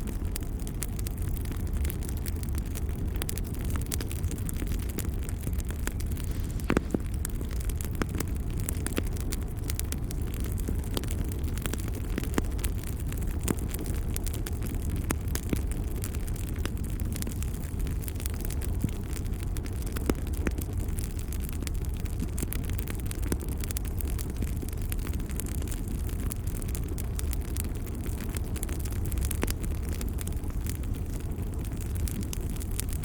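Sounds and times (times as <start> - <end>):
fire crackles and pops: 0.0 - 33.0
fire low rumble: 0.0 - 33.0.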